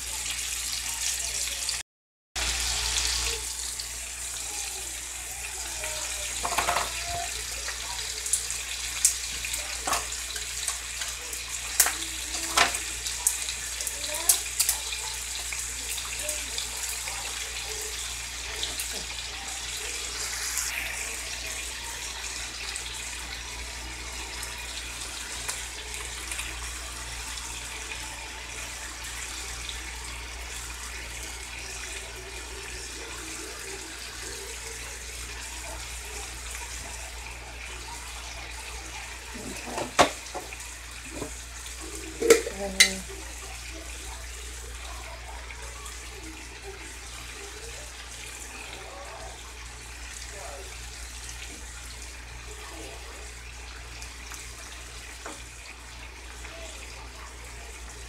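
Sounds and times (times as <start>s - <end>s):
food sizzling in a skillet: 0.0s - 1.8s, 2.4s - 58.0s.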